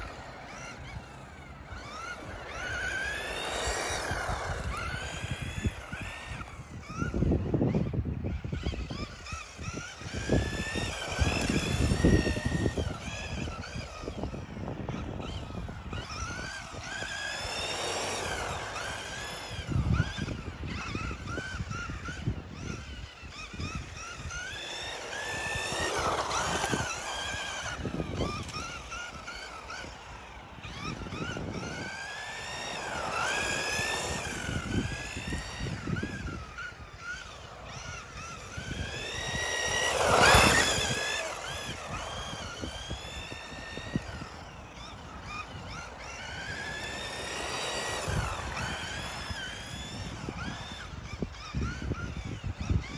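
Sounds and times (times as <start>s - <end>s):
electric toy car motor whine: 0.0s - 52.9s.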